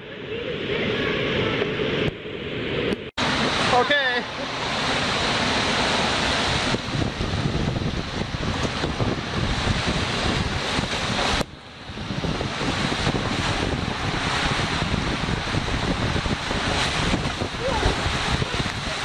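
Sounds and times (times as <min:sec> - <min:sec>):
wind on microphone: 0:00.0 - 0:03.7, 0:04.5 - 0:19.0
rushing water on a slide: 0:03.2 - 0:19.0.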